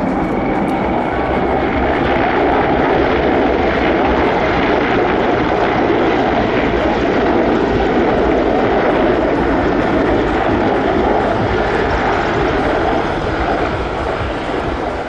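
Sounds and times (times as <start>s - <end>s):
helicopters flying past: 0.0s - 15.0s.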